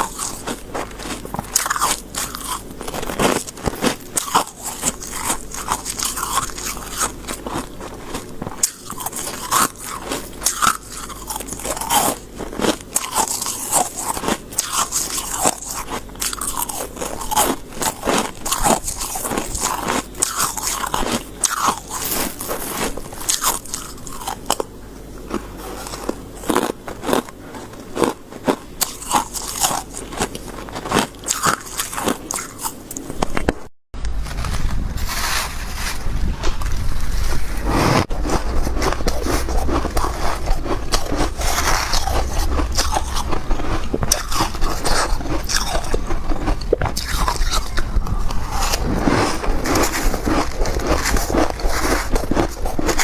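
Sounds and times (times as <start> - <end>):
frost being bitten and chewed: 0.0 - 33.6, 38.0 - 53.0.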